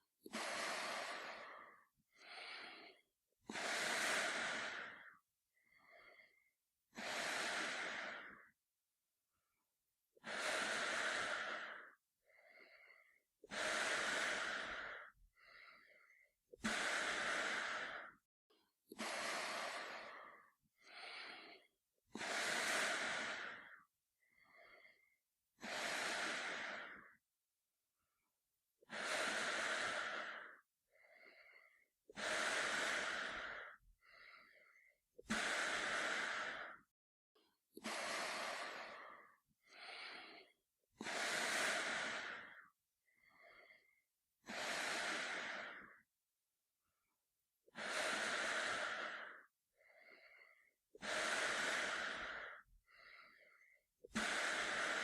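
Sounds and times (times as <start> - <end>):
man breathing through gas mask: 0.3 - 8.6, 10.2 - 18.2, 18.9 - 27.2, 28.8 - 36.9, 37.8 - 46.1, 47.6 - 55.0.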